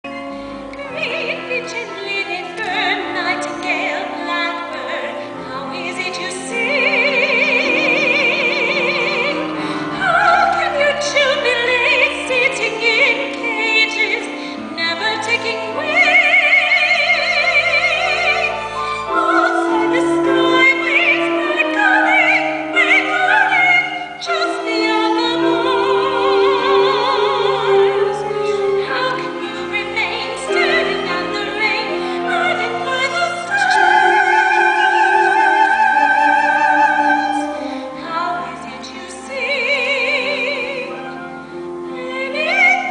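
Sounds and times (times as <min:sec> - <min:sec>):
orchestral accompaniment: 0:00.0 - 0:42.9
soprano singing opera: 0:00.0 - 0:42.9.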